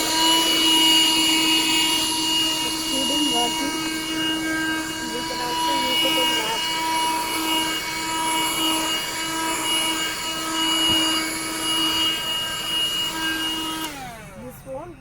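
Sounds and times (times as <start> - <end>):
handheld vacuum cleaner running: 0.0 - 15.0.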